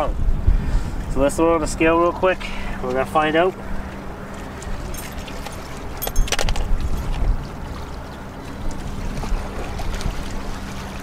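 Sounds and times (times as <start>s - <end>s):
wind buffeting microphone: 0.0s - 2.4s, 3.6s - 11.0s.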